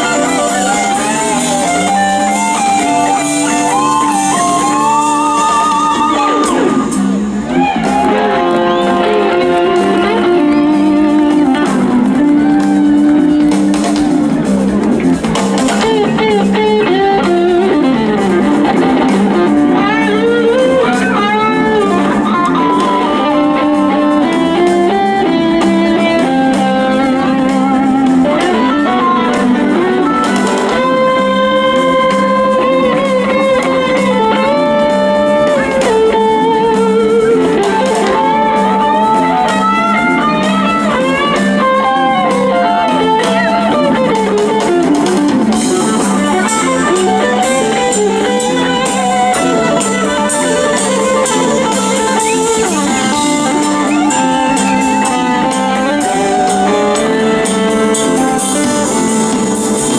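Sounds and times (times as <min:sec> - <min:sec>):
bass guitar: 0:00.0 - 0:59.9
drums: 0:00.0 - 0:59.9
electric lead guitar solo: 0:00.0 - 0:59.9.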